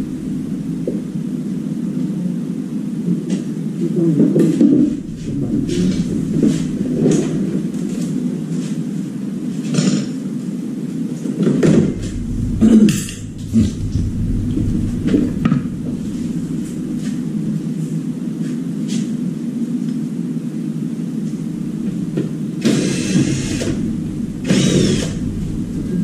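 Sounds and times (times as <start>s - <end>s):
low hum: 0.0s - 3.9s, 4.6s - 9.5s, 11.5s - 19.8s, 20.8s - 26.0s.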